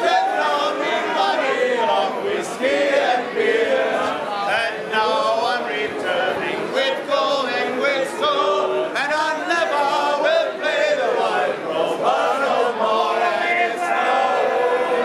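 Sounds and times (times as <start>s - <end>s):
crowd singing without instruments: 0.0s - 15.0s.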